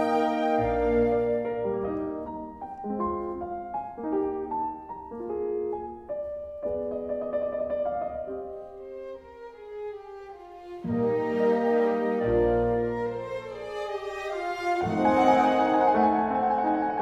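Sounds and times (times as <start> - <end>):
slow classical piano melody: 0.0 - 17.0.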